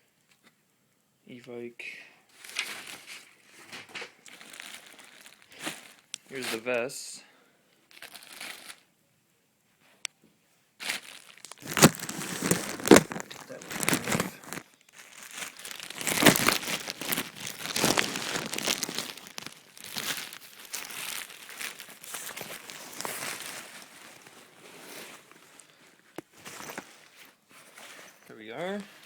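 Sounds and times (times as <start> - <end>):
packaging crinkling and rustling: 2.4 - 6.7, 7.9 - 8.8, 10.8 - 29.0.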